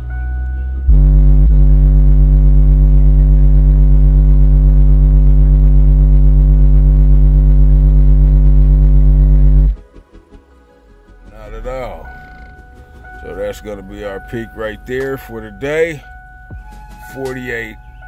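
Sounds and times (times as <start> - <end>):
subwoofer low test tone drone: 0.0 - 9.8, 11.5 - 18.0.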